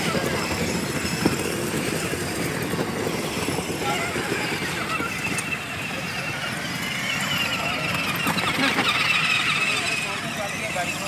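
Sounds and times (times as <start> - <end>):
plastic wheels rumbling on bricks: 0.0 - 11.0
small electric motors: 0.0 - 11.0.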